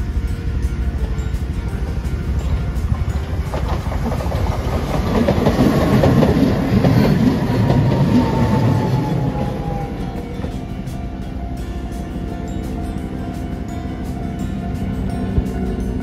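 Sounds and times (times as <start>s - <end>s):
tram wheels clacking on rails: 0.0s - 16.0s.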